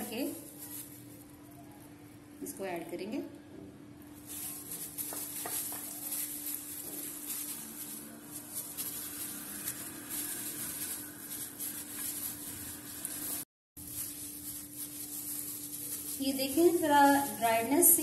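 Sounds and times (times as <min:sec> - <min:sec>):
gloved hand mixing fish rustle: 0:00.0 - 0:01.4, 0:04.2 - 0:18.0.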